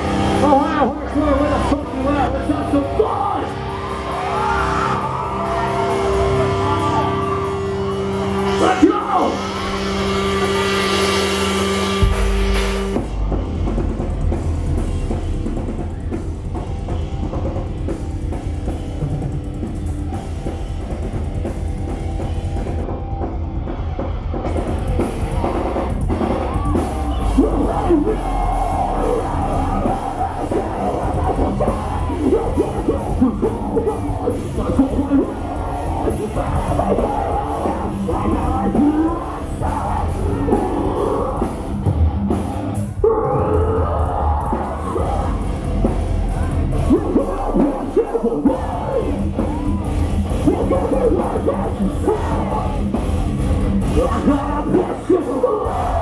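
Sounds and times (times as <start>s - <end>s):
heavy drums: 0.0s - 56.0s
live metal band playing: 0.0s - 56.0s.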